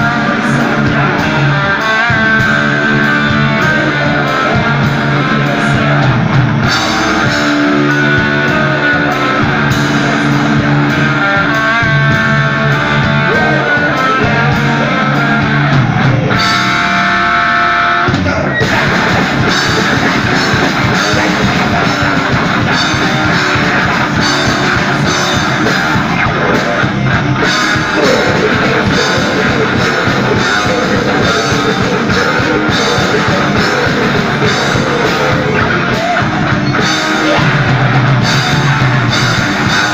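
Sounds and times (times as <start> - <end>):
bass guitar: 0.0 - 39.9
drums hitting hard: 0.0 - 39.9
electric guitars: 0.0 - 39.9.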